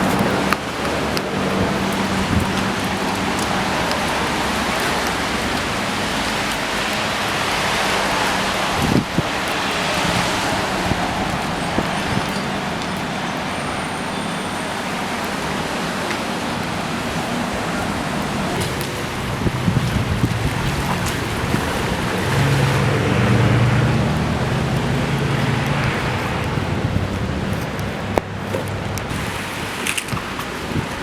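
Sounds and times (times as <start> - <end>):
hard rain hissing: 0.0 - 31.0.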